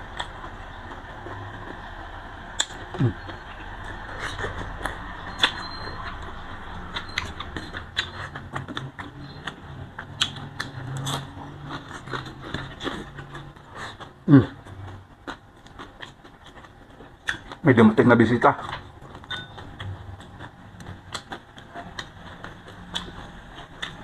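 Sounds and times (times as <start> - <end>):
chewing and lip smacking: 0.0 - 24.0
low steady hum: 0.0 - 24.0.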